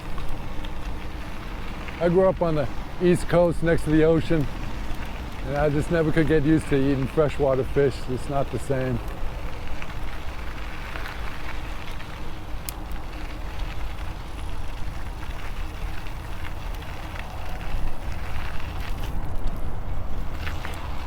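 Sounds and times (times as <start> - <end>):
bicycle tyre noise: 0.0 - 21.0.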